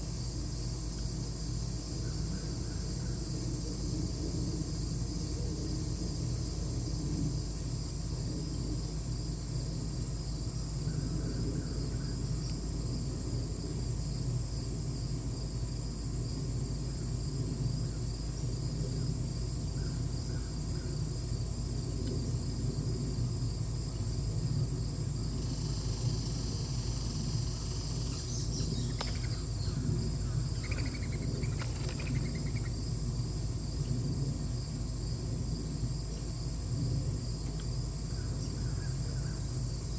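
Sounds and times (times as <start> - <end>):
insects trilling: 0.0 - 36.6.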